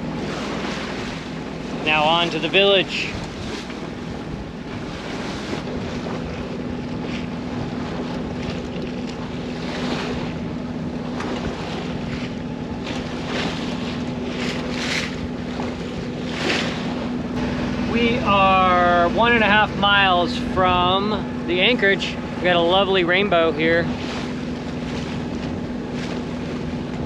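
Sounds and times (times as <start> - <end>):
steady low hum: 0.0 - 27.0
water splashing along hull: 0.0 - 27.0
wind buffeting microphone: 0.0 - 27.0.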